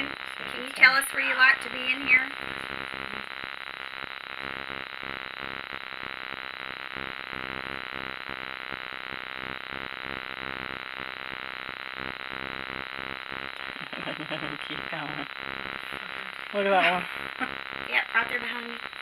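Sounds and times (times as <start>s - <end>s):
pulsing buzzing drone: 0.0s - 19.0s.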